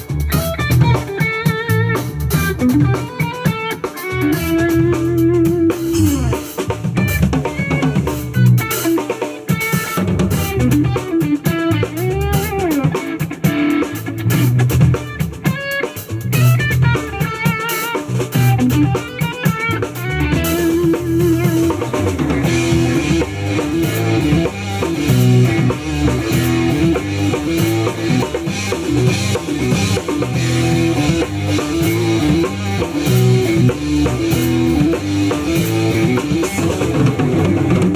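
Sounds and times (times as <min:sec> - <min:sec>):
bending electric guitar phrase: 0:00.0 - 0:37.9
jazz fusion trio playing: 0:00.0 - 0:37.9.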